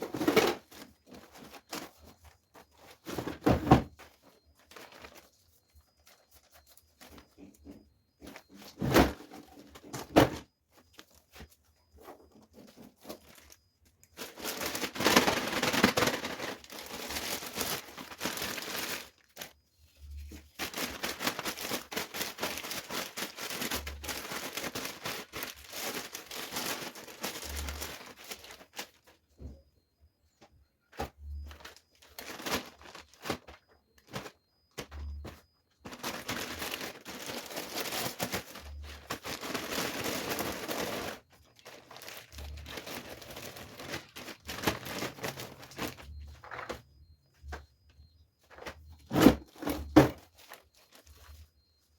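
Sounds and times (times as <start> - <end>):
plastic bags crinkling: 0.0 - 29.2, 31.0 - 46.8, 48.5 - 51.5.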